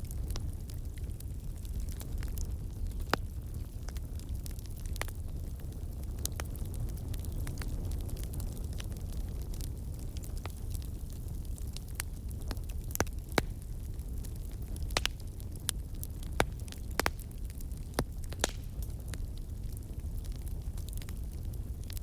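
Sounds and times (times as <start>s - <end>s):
logs crackling and popping: 0.0s - 22.0s
low fire rumble: 0.0s - 22.0s.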